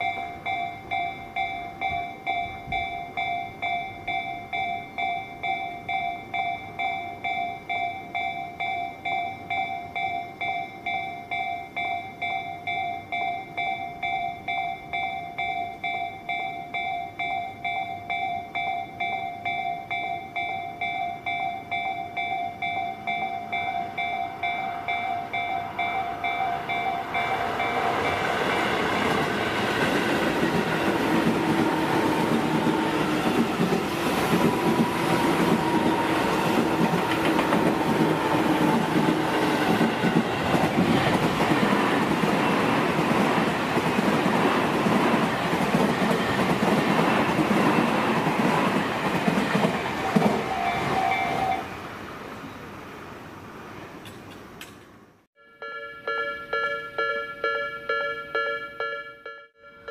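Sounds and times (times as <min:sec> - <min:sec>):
level-crossing warning bell ringing: 0:00.0 - 0:51.7, 0:55.4 - 0:59.9
electric train passing: 0:00.0 - 0:59.9.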